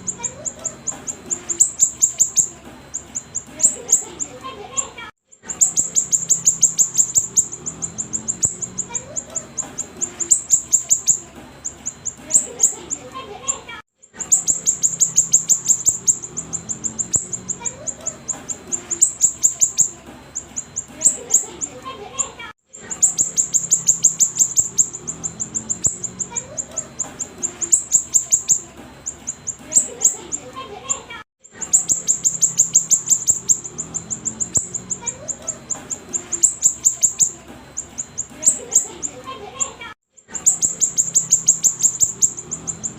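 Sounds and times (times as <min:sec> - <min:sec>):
songbird high thin chirps: 0:00.0 - 0:04.4, 0:05.4 - 0:13.0, 0:14.1 - 0:21.8, 0:22.8 - 0:30.5, 0:31.5 - 0:39.3, 0:40.3 - 0:42.9.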